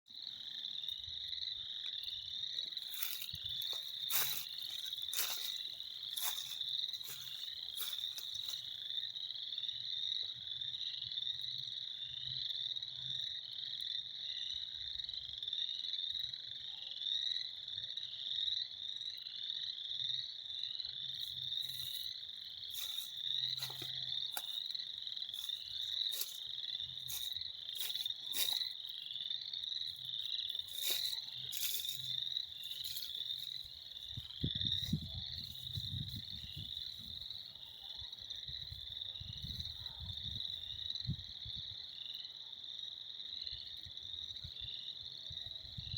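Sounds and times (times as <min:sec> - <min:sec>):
frogs chorus trilling: 0:00.1 - 0:45.9
sharp frog calls nearby: 0:00.1 - 0:45.9.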